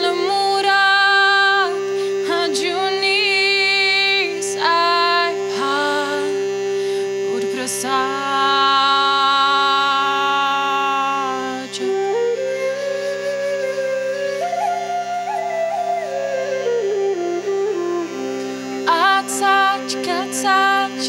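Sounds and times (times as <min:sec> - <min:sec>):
steady drone: 0:00.0 - 0:21.0.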